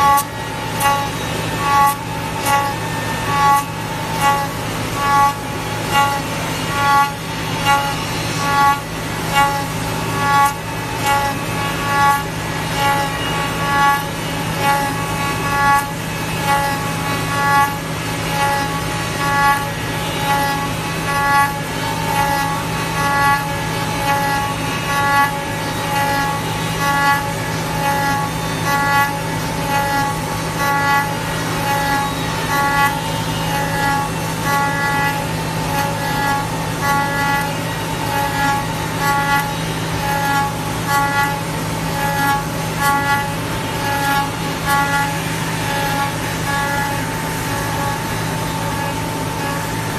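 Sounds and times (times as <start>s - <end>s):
cnc router spindle whine: 0.0s - 49.9s.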